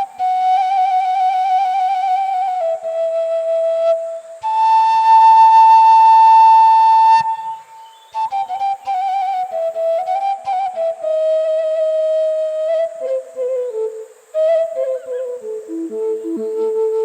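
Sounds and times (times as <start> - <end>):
flute playing slow lament: 0.0 - 17.0.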